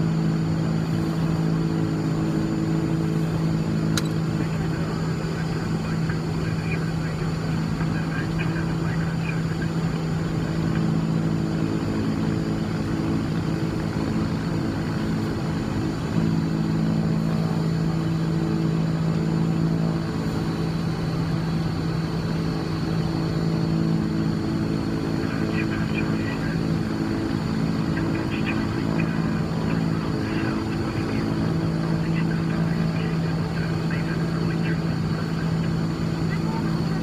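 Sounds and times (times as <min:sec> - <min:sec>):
aircraft piston engines droning: 0:00.0 - 0:37.0.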